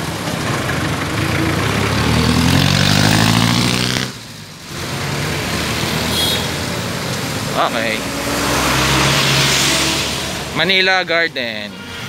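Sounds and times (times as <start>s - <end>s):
street traffic noise: 0.0s - 12.0s
vehicle engine revving: 0.0s - 12.0s.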